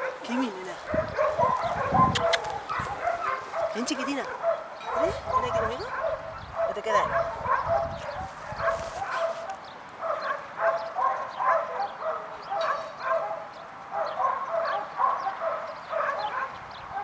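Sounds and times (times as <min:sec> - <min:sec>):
dogs yapping and barking: 0:00.0 - 0:17.0.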